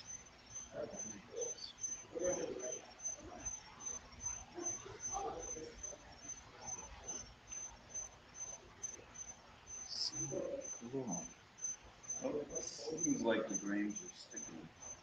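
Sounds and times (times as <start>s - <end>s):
cricket chirping: 0.0s - 15.0s
faint low murmur: 0.0s - 15.0s.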